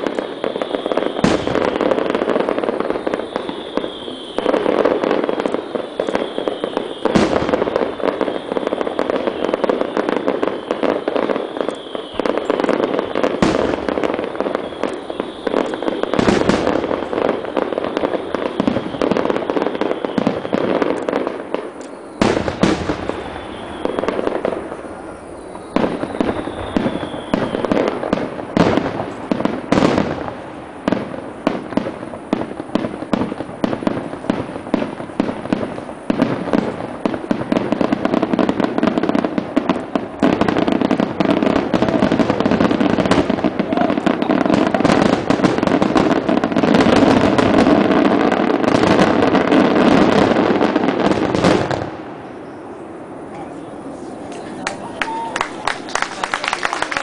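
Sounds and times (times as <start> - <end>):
firework shells bursting: 0.0 - 52.0
falling firework whistle: 0.0 - 52.8, 53.6 - 57.0.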